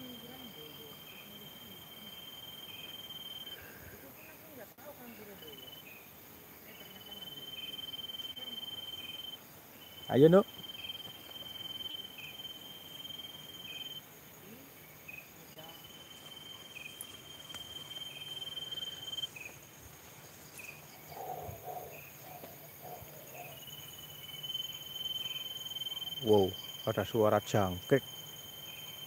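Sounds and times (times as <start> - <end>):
cricket chirps: 0.0 - 29.0
crickets trilling: 0.0 - 29.0.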